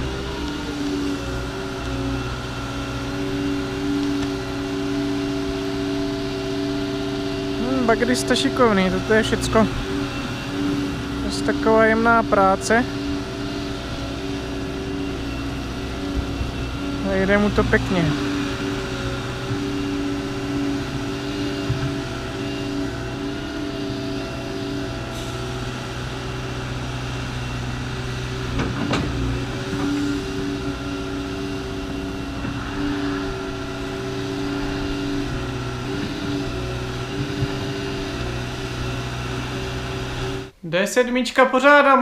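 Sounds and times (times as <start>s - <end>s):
excavator diesel engine running: 0.0s - 40.6s.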